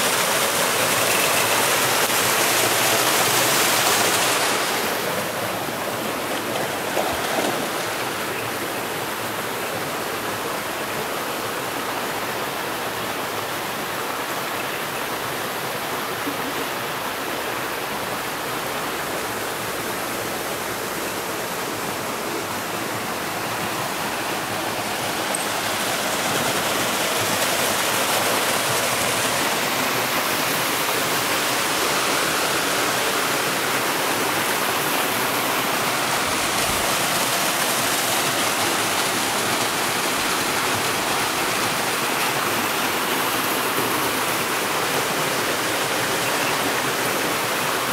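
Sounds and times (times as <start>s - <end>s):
river water rushing over rocks: 0.0s - 47.9s.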